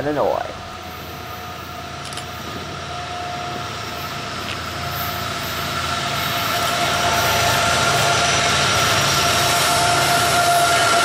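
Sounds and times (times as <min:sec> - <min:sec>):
diesel locomotive engine rumble: 0:00.0 - 0:11.0
rail noise: 0:00.0 - 0:11.0.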